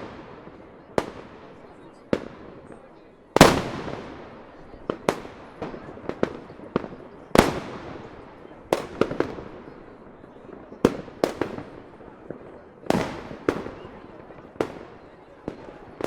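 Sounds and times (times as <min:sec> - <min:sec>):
fireworks bangs echoing: 0:00.0 - 0:16.0.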